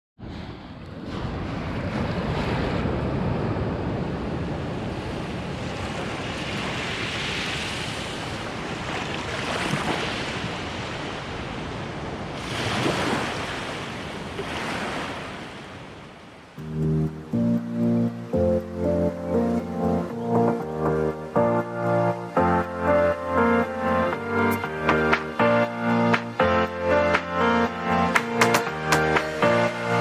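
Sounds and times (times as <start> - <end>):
waves breaking: 0.2 - 30.0.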